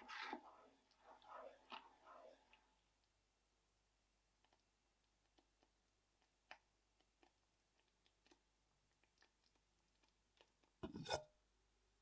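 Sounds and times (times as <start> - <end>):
sauce simmering with bubbles popping: 0.0 - 11.2.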